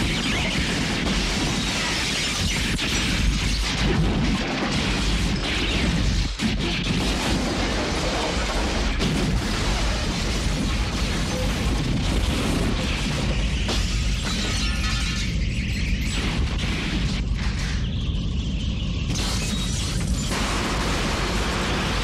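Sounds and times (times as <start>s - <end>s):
booming and crashing effects: 0.0s - 22.0s
steady low rumble: 0.0s - 22.0s.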